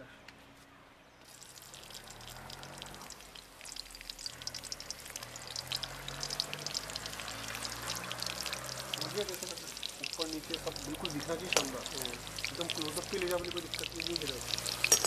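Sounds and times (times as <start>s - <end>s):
chillies sizzling in hot oil: 1.2s - 15.0s.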